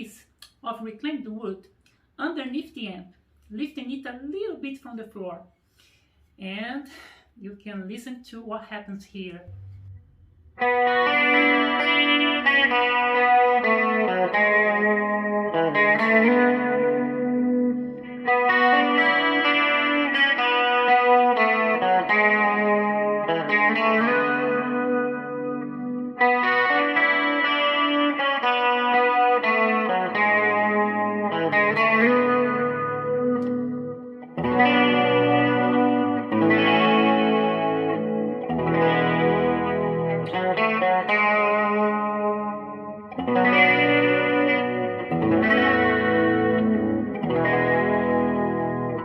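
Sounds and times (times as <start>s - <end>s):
electric guitar chords: 9.4s - 49.0s.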